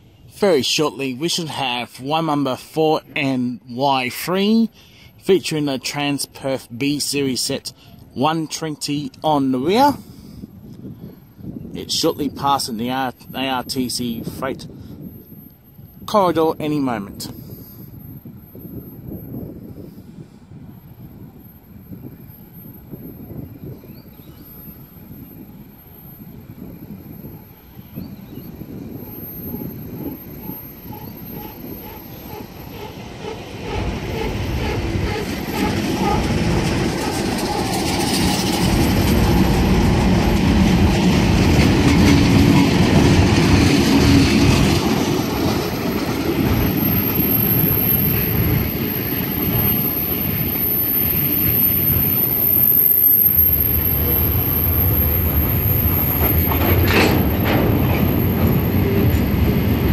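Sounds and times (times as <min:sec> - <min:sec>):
train passing on rails: 0:00.0 - 0:59.9.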